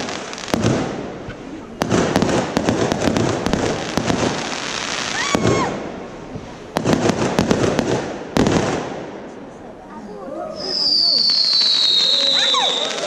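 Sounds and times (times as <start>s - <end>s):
fireworks crackling bangs: 0.0s - 9.5s, 10.6s - 13.0s.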